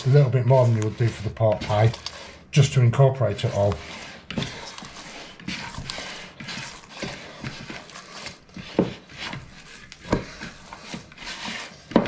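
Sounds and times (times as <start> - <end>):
hand squelching minced meat: 0.0 - 11.9.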